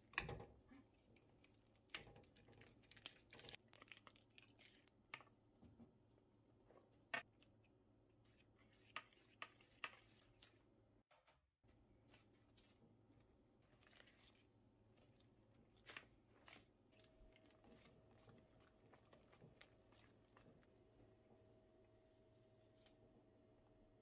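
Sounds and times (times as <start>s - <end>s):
faint clicks and rustles of handling: 0.0s - 23.1s.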